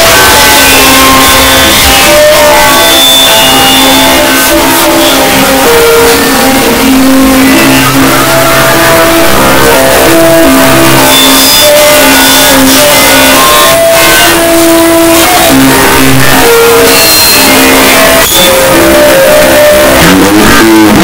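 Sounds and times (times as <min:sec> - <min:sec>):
distorted synth music: 0:00.0 - 0:21.0
steady roar of noise: 0:00.0 - 0:21.0.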